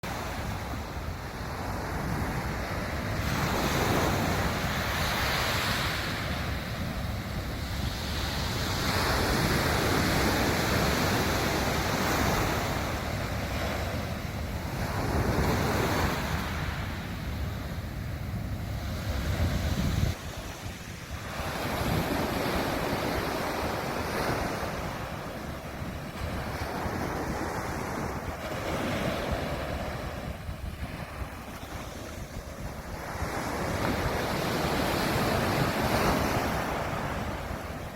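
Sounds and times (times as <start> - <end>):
low wind rumble on microphone: 0.0 - 37.9
sea waves breaking on beach: 0.0 - 37.9.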